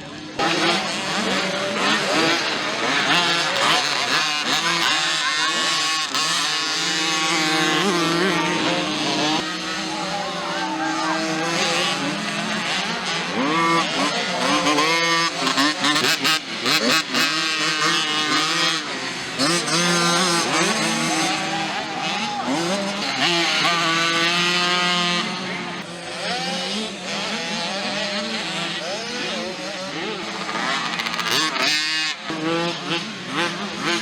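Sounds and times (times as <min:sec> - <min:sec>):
small motocross bikes revving: 0:00.0 - 0:34.0.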